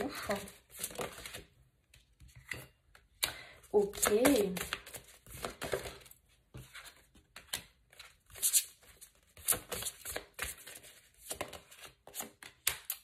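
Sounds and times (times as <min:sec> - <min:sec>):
cards being shuffled: 0:00.2 - 0:01.5, 0:03.8 - 0:13.0.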